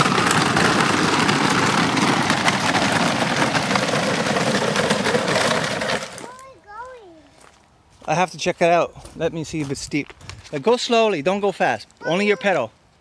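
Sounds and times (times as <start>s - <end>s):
plastic wheels crunching on gravel: 0.0s - 11.0s.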